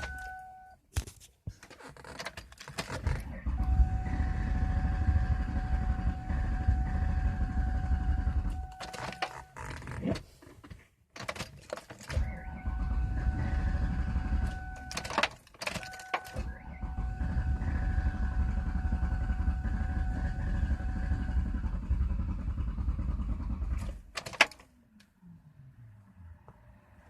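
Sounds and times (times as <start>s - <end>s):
car engine cranking: 1.6s - 25.2s.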